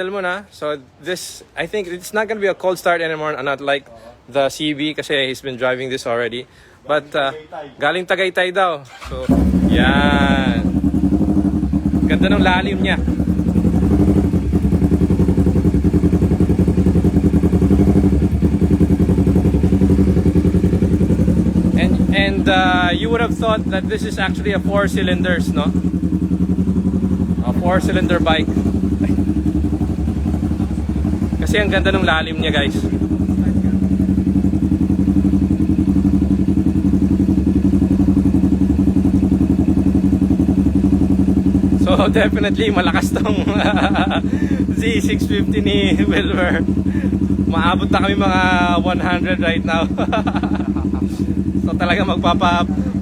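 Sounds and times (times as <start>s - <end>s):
motorcycle engine idling: 8.9s - 53.0s.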